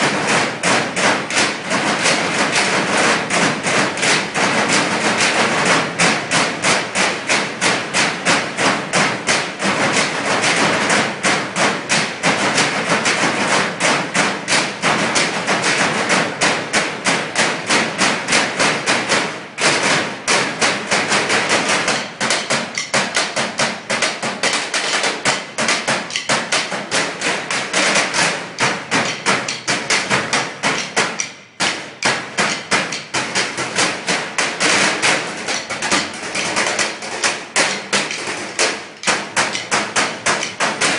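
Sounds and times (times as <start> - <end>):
drumsticks beating metal trash cans: 0.0 - 40.9.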